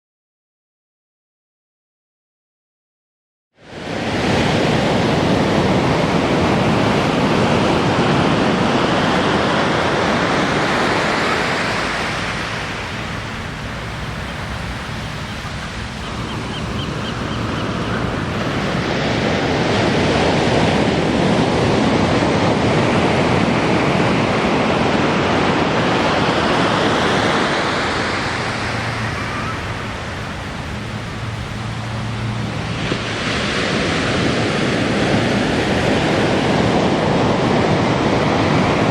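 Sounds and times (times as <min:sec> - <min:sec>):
waves breaking on beach: 0:03.6 - 0:38.9.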